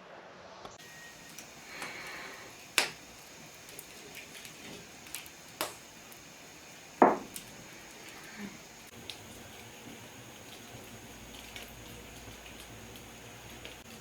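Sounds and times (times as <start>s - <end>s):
faint steady hiss: 0.6s - 14.0s.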